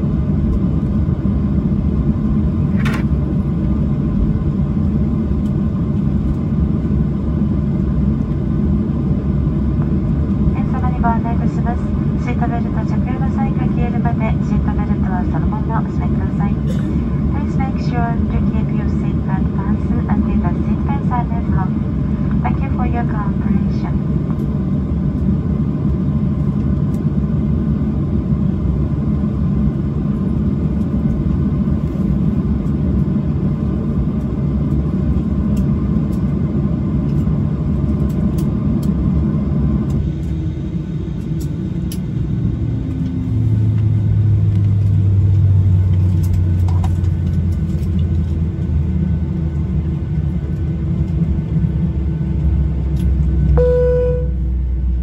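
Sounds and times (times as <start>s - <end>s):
aircraft engines idling rumble: 0.0s - 55.0s
low steady cabin hum: 0.0s - 55.0s.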